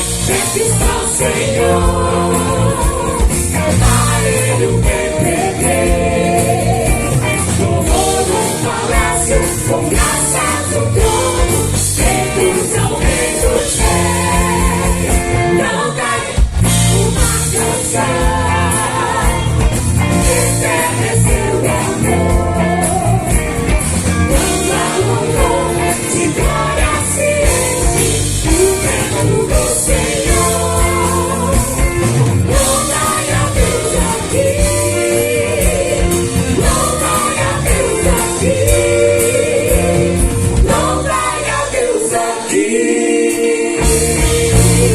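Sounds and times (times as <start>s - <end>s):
band with steady beat: 0.0s - 42.5s, 43.3s - 44.9s
amplified singing: 0.0s - 44.9s.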